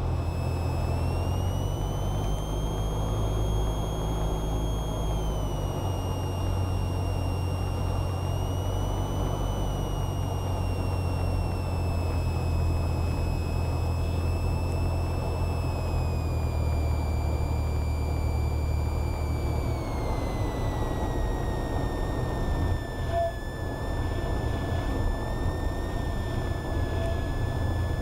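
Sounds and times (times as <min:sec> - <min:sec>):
aircraft engine and propeller droning: 0:00.0 - 0:28.0
thin high whine: 0:00.0 - 0:28.0.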